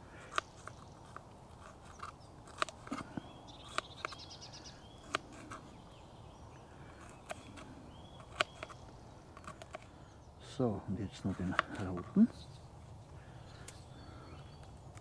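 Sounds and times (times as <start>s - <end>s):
bird chirping trill: 0.1s - 15.0s.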